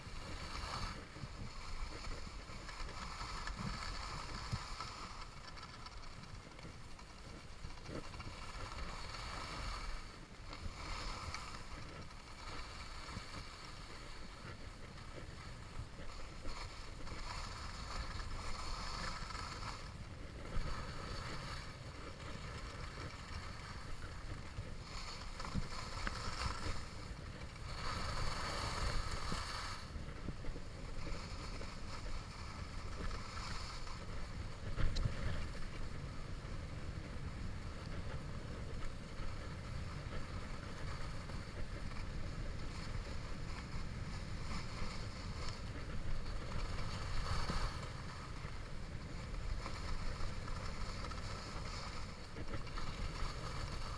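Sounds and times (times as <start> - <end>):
skis scraping on snow: 0.0 - 53.9
wind rumble on microphone: 0.0 - 53.9.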